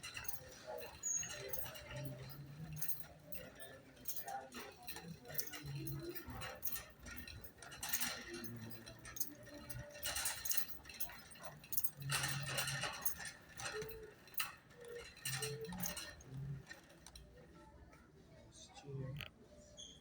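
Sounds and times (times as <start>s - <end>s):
clinks and clicks: 0.0s - 17.4s.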